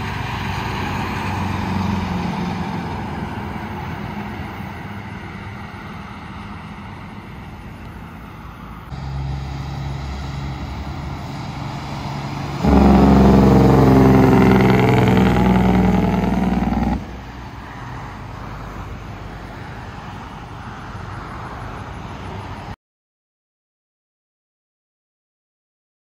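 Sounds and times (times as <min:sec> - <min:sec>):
cars passing: 0:00.0 - 0:22.8
diesel truck driving past: 0:00.0 - 0:22.8
road and tyre noise: 0:00.0 - 0:22.8.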